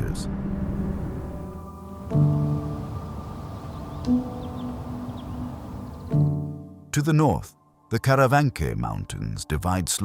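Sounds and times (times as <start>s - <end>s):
soft sustained background music: 0.0s - 10.0s.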